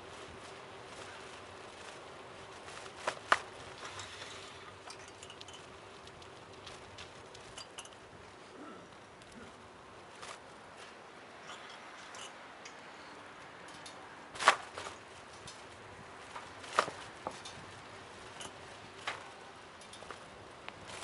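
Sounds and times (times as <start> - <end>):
faint background noise: 0.0 - 21.0.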